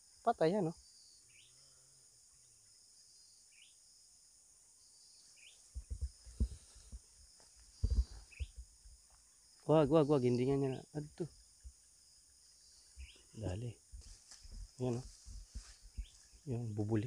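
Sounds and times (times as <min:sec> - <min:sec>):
crickets and insects buzzing: 0:00.0 - 0:17.0
short insect chirps: 0:00.0 - 0:17.0.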